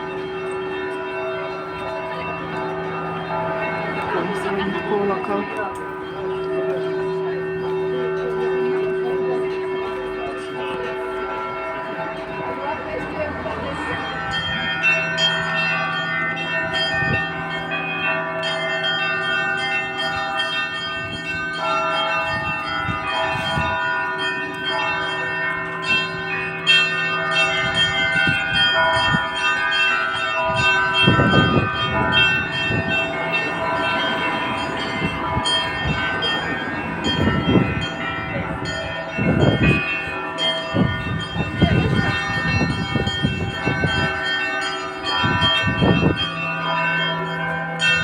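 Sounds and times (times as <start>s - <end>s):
church bells pealing: 0.0s - 48.0s.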